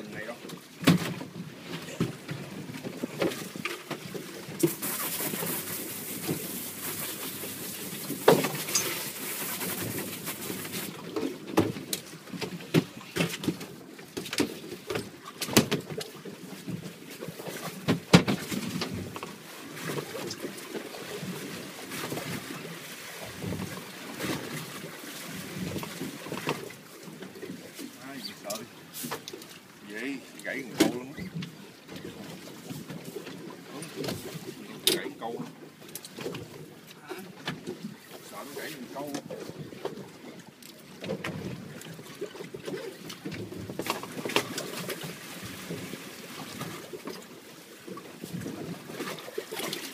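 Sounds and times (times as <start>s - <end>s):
water slapping against boat hull: 0.0s - 49.9s.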